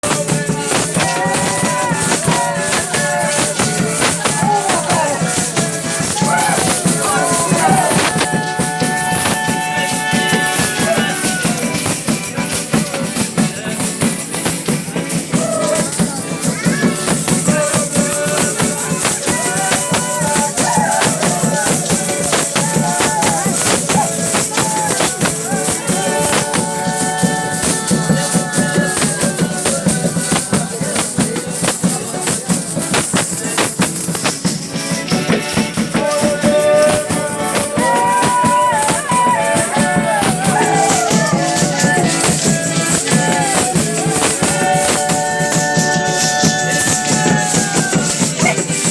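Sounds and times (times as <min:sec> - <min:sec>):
drum and tambourine beat: 0:00.0 - 0:48.9
held melodic notes: 0:00.0 - 0:48.9.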